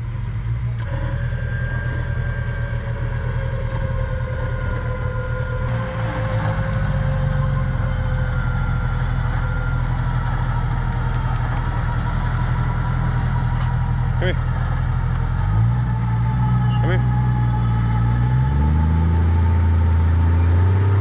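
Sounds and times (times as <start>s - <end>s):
vehicle engine running: 0.0s - 21.0s
thin whine falling in pitch: 0.4s - 21.0s.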